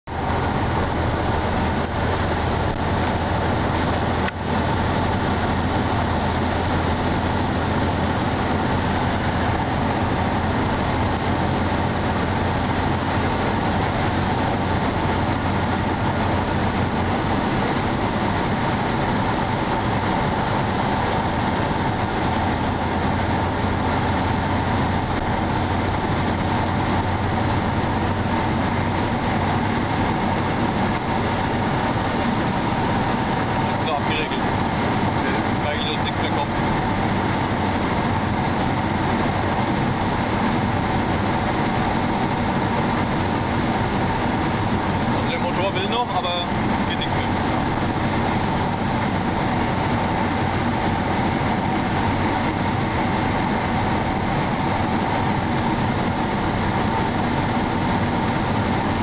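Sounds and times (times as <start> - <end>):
car engine at high revs: 0.0 - 59.0
wind and tyre noise: 0.0 - 59.0.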